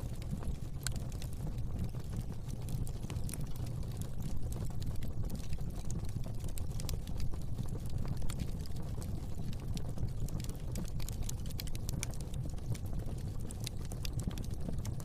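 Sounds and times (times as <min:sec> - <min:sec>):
fire crackling and popping: 0:00.0 - 0:15.0
fire rumbling: 0:00.0 - 0:15.0.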